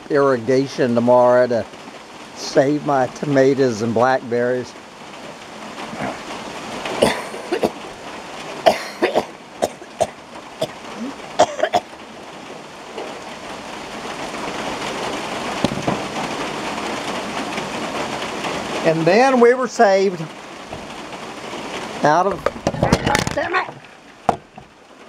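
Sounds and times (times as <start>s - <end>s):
rain on a tin roof: 0.0s - 25.0s.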